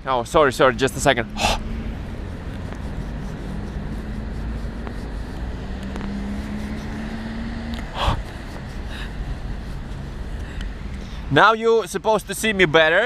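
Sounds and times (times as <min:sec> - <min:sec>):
passing vehicle engine hum: 0:00.0 - 0:12.7
street traffic rumble: 0:00.0 - 0:13.0.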